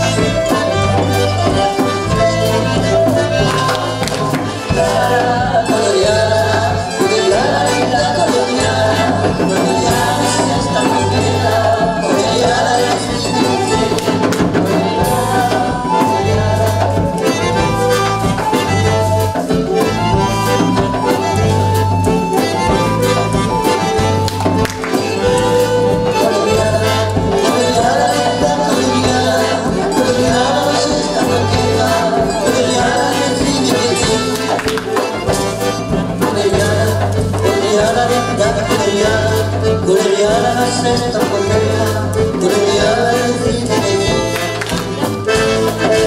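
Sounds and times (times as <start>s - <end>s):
accordion melody: 0.0s - 46.0s
bass guitar pulsing: 0.0s - 46.0s
live band playing cumbia: 0.0s - 46.0s.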